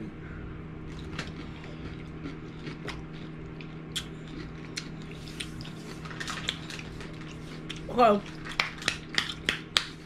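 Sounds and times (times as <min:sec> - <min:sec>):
microwave oven humming: 0:00.0 - 0:10.0
people chewing: 0:00.9 - 0:10.0.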